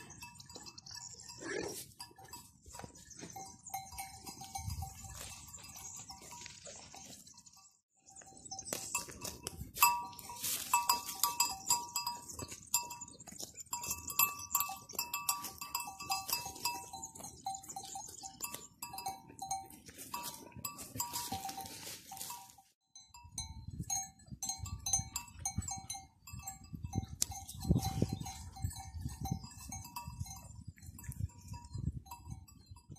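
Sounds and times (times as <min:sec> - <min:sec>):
livestock bells clanking: 0:00.0 - 0:32.9.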